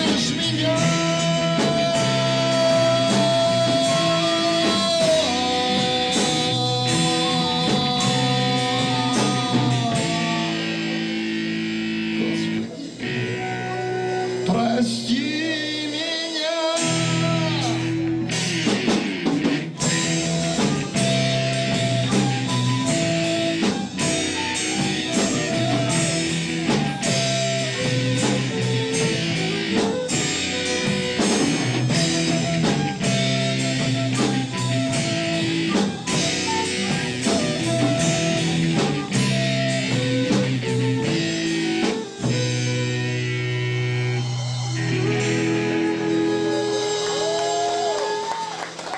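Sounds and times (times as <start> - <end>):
instrumental rock music: 0.0 - 48.9.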